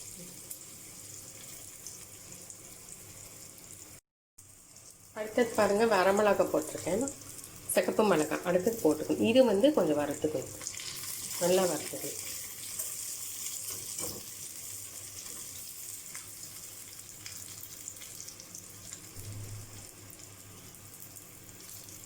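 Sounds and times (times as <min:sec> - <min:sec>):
oil sizzling in a pan: 0:00.0 - 0:22.0.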